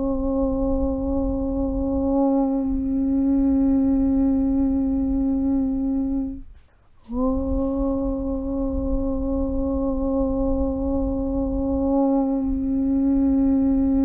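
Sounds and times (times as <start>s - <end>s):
chanted aum drone: 0.0s - 6.5s, 7.1s - 14.0s
low rumble: 0.0s - 14.0s.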